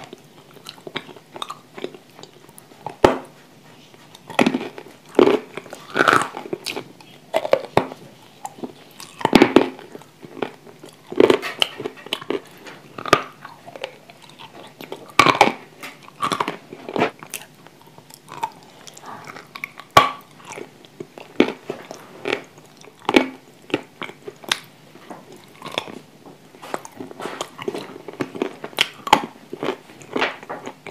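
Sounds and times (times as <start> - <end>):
person chewing: 0.0 - 30.9.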